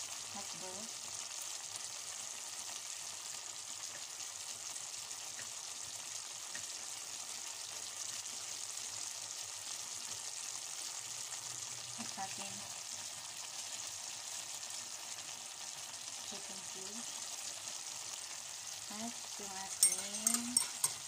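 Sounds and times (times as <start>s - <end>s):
food sizzling in pot: 0.0s - 21.0s.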